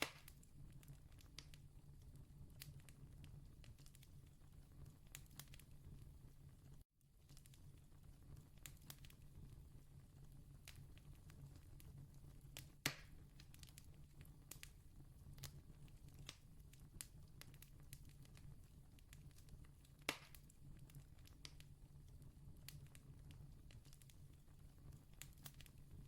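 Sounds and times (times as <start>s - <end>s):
campfire crackling: 0.0s - 26.0s
fire popping: 0.0s - 26.0s.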